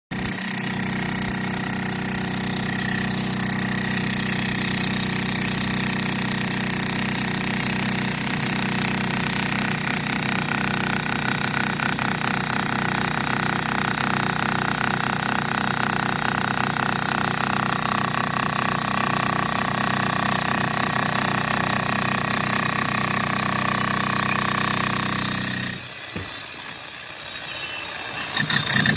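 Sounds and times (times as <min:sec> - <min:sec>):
electric demolition hammer hammering: 0:00.1 - 0:26.9.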